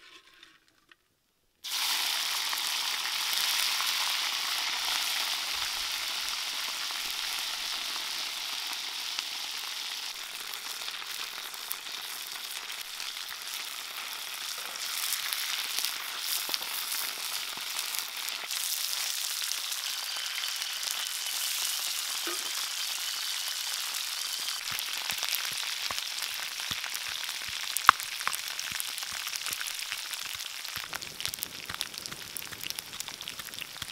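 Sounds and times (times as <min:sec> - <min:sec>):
oil popping and crackling: 0:01.6 - 0:33.9
oil sizzling in a wok: 0:01.6 - 0:33.9.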